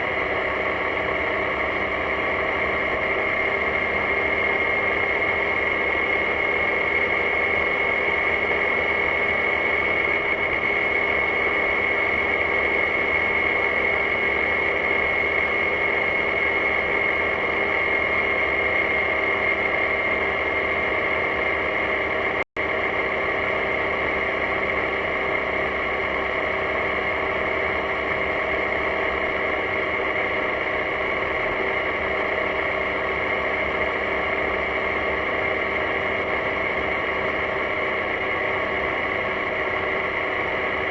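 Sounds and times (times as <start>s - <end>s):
high whine: 0.0s - 40.9s
scooter engine running: 0.0s - 40.9s.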